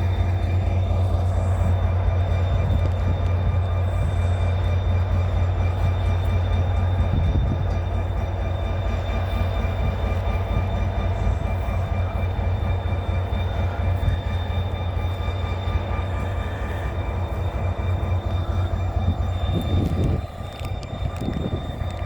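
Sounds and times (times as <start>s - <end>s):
diesel locomotive drone: 0.0s - 22.0s
faint high whine: 0.0s - 22.0s.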